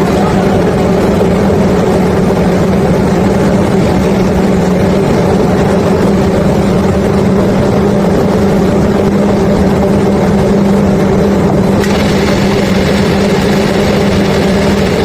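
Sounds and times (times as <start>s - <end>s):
continuous rushing noise: 0.0s - 15.0s
machinery engine running: 0.0s - 15.0s.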